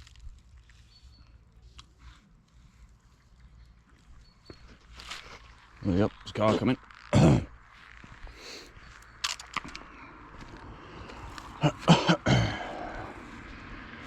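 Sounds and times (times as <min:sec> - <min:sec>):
car approaching: 0:01.4 - 0:14.0.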